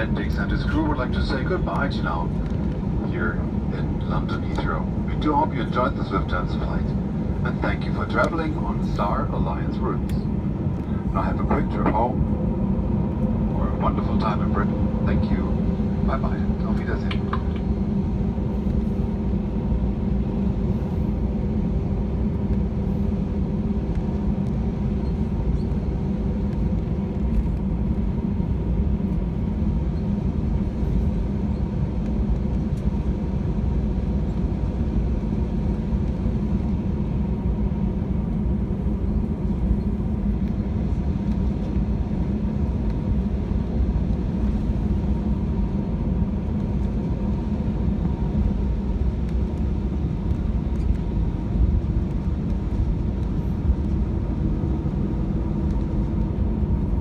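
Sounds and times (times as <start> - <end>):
aircraft cabin rumble: 0.0 - 57.0
faint steady hum: 0.0 - 57.0.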